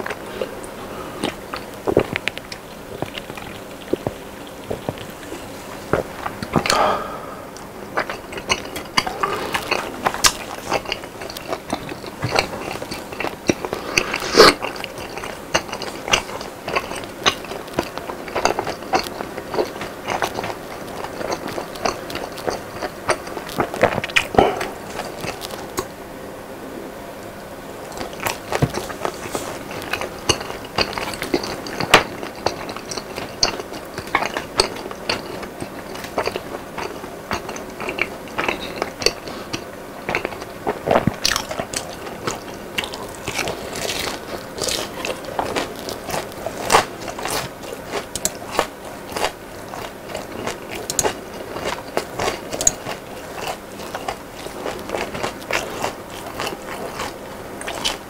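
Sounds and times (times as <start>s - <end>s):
chewing crispy fried chicken: 0.0s - 26.0s, 27.8s - 58.0s.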